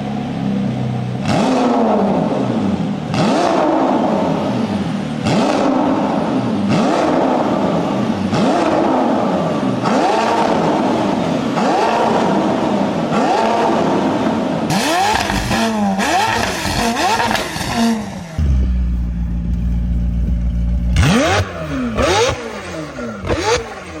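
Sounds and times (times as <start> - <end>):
car exhaust accelerating hard: 1.2 - 24.0.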